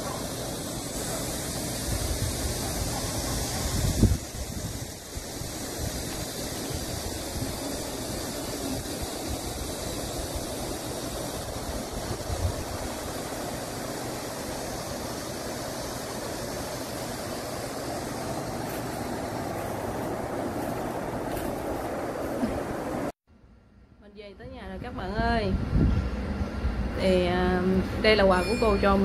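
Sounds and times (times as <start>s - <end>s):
wind buffeting microphone: 0.0s - 23.1s, 24.4s - 29.0s.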